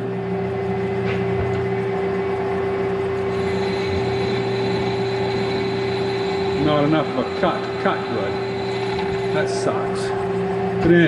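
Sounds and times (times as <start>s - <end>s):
metal lathe motor humming: 1.7s - 11.0s
high whine of lathe cutting: 2.0s - 11.0s.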